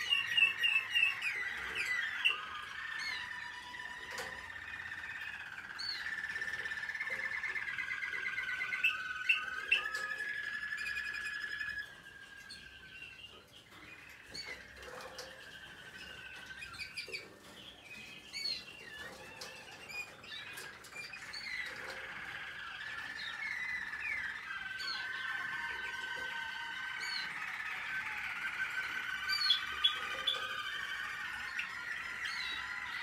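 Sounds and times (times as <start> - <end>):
canaries trilling and chirping: 0.0 - 33.0.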